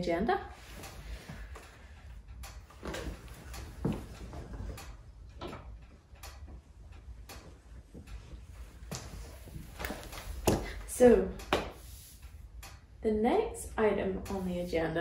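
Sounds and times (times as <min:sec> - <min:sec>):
footsteps in small room: 0:00.3 - 0:13.0.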